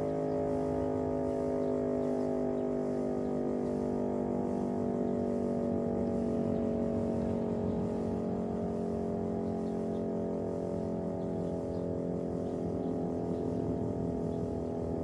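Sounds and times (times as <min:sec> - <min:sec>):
siren steady layered tone: 0:00.0 - 0:15.0.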